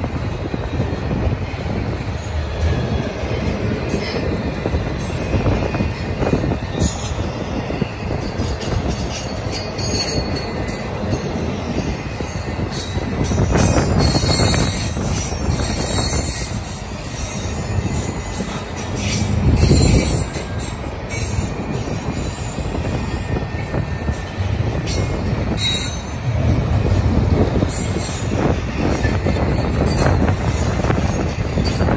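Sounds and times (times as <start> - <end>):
steel wheels rumbling on rail: 0.0 - 31.9.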